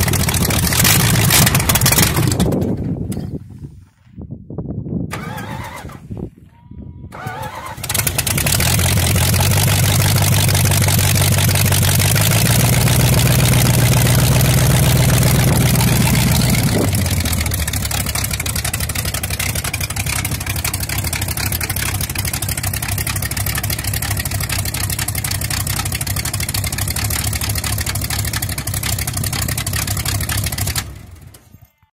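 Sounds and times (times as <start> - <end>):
starter motor cranking: 0.0 - 2.6, 5.2 - 6.0, 7.2 - 31.0
car engine idling: 0.0 - 2.7, 7.9 - 31.3.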